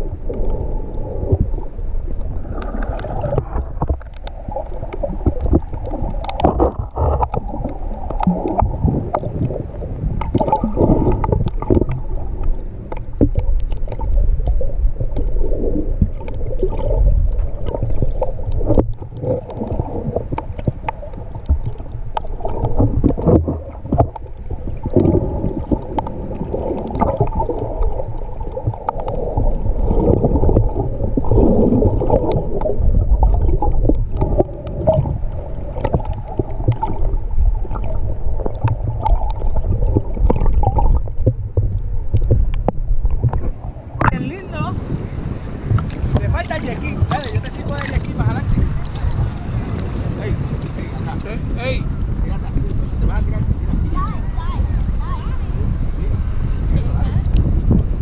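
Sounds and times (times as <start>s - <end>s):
underwater water sloshing: 0.0s - 58.0s.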